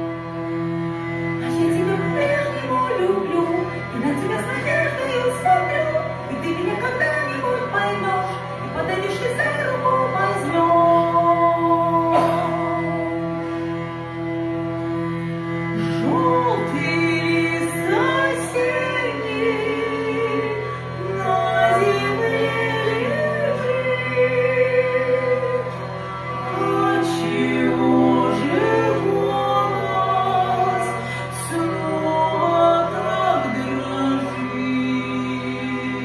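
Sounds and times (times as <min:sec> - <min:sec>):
hurdy-gurdy playing: 0:00.0 - 0:36.0
woman singing: 0:01.4 - 0:12.6, 0:15.9 - 0:25.7, 0:26.5 - 0:36.0.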